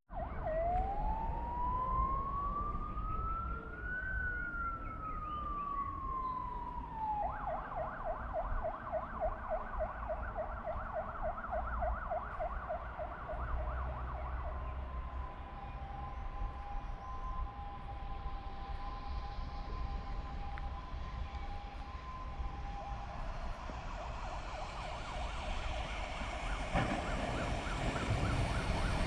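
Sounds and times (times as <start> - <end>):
siren fast yelp: 0.1 - 14.6, 15.8 - 29.0
siren wailing: 0.1 - 29.0.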